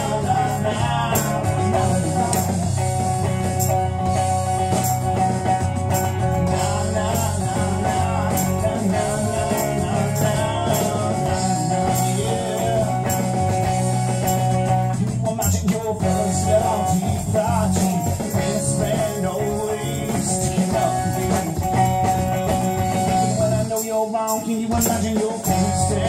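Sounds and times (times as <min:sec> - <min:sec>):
electric bass: 0:00.0 - 0:23.8, 0:24.8 - 0:26.0
hand percussion: 0:00.0 - 0:26.0.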